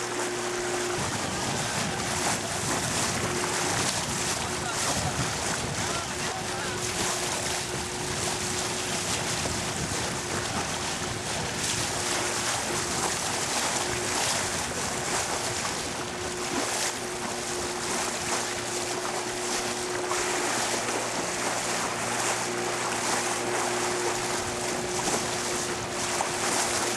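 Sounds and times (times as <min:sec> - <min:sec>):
boat engine hum: 0:00.0 - 0:26.9
wind and water rushing: 0:00.0 - 0:26.9.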